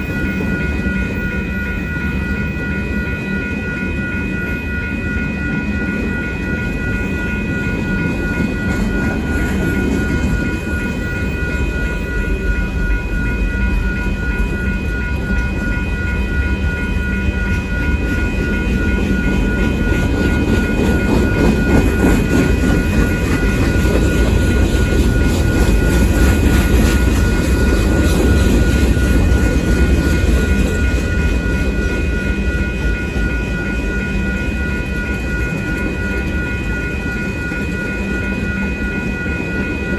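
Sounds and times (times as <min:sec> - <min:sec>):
crossing warning bell ringing: 0:00.0 - 0:39.9
train wheels rumbling on rail: 0:00.0 - 0:39.9.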